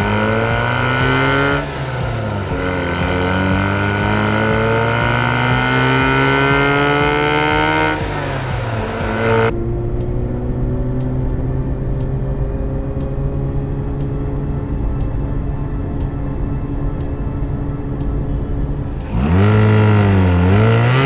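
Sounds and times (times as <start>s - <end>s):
low engine drone: 0.0s - 21.0s
rotary engine revving: 0.0s - 21.0s.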